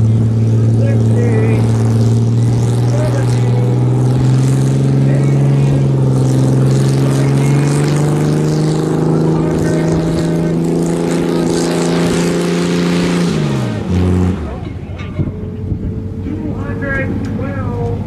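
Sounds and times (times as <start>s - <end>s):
tractor engine under heavy load: 0.0s - 18.0s.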